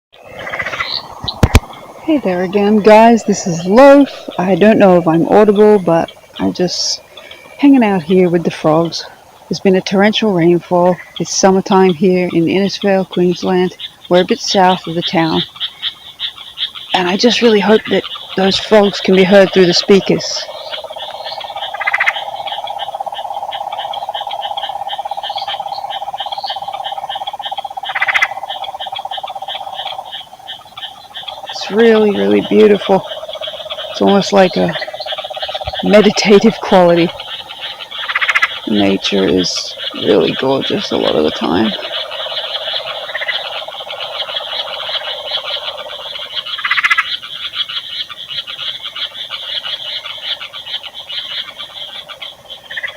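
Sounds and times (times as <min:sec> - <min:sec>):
frogs short high calls: 0:00.2 - 0:52.9
frogs trilling drone: 0:00.2 - 0:52.9
loud rasping frog call: 0:00.2 - 0:52.9.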